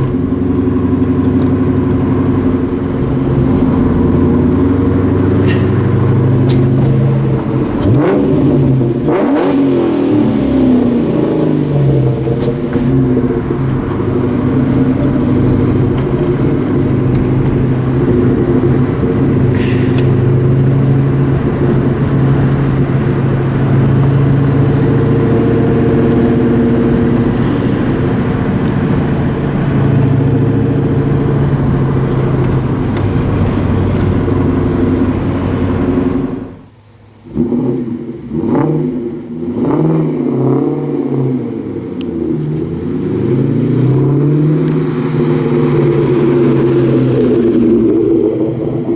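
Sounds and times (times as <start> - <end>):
loud car exhaust revving: 0.0 - 48.9.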